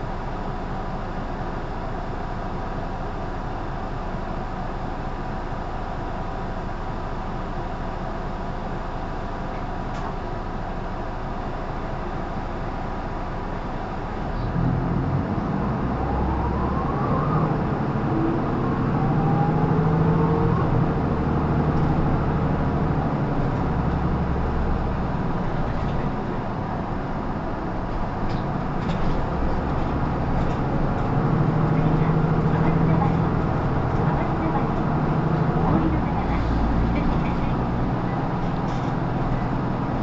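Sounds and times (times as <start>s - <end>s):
bus diesel engine: 0.0s - 40.0s.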